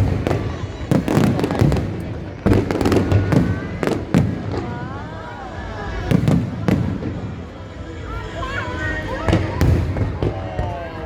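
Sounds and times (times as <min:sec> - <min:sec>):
fireworks bangs and crackles: 0:00.0 - 0:08.1, 0:09.2 - 0:11.0.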